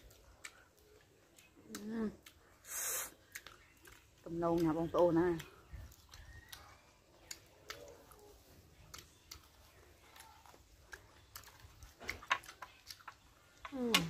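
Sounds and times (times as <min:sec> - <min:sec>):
person chewing food: 0:00.0 - 0:14.0
soft mouth clicks and smacks: 0:00.0 - 0:14.0.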